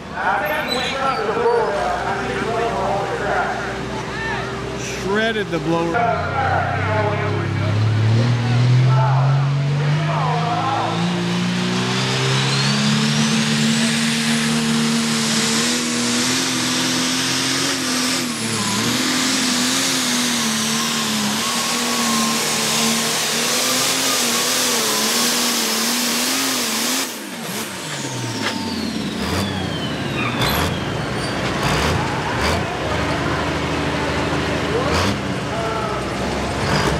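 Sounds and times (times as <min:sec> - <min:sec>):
tractor engine at full throttle: 0:00.0 - 0:36.9.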